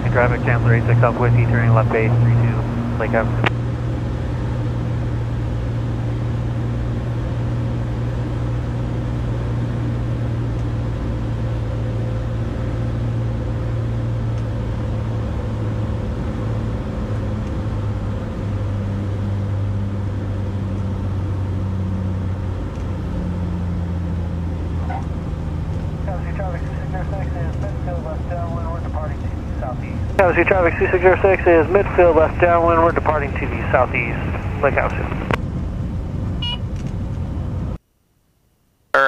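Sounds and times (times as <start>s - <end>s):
airplane engine and propeller droning: 0.0s - 37.8s.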